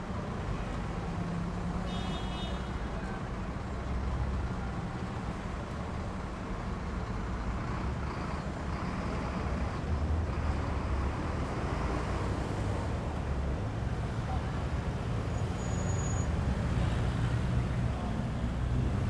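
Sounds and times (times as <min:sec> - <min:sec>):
vehicles passing on street: 0:00.0 - 0:19.0.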